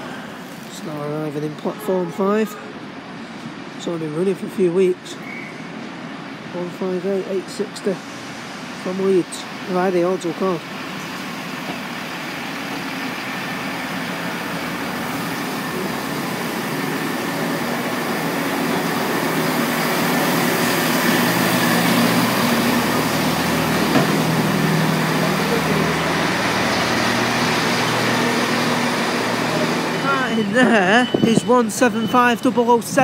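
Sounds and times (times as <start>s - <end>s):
diesel train engines humming: 0.0s - 33.0s
train carriages rolling past: 5.2s - 33.0s.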